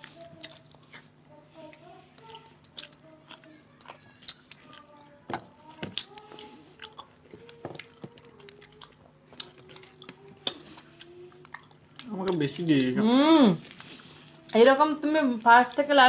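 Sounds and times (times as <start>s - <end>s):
chewing and mouth sounds: 0.0s - 16.0s.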